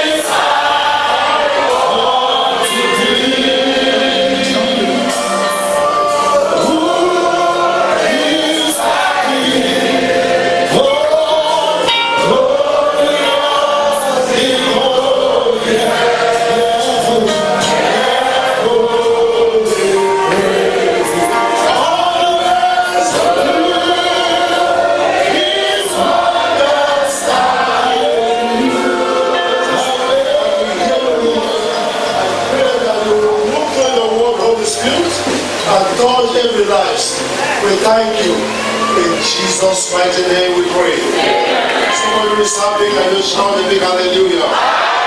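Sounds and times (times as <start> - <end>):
choir singing gospel: 0.0 - 45.0.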